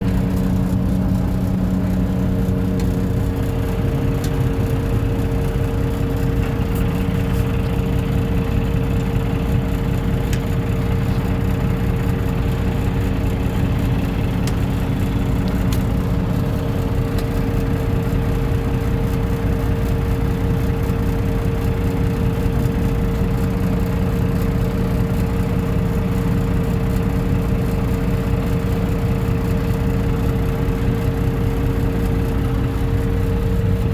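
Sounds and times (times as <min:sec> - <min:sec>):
engine whine: 0:00.0 - 0:33.9
excavator diesel engine rumbling: 0:00.0 - 0:33.9.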